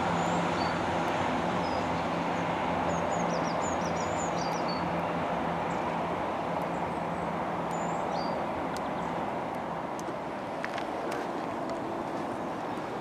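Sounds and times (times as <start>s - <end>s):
vehicle running: 0.0s - 13.0s.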